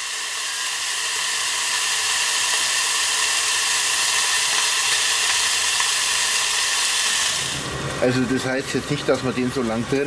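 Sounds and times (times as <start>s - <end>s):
bacon sizzling in a grill: 0.0s - 10.0s.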